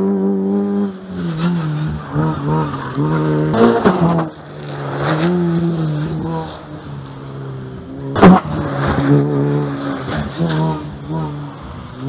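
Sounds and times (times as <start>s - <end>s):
rally car engines: 0.0s - 12.0s.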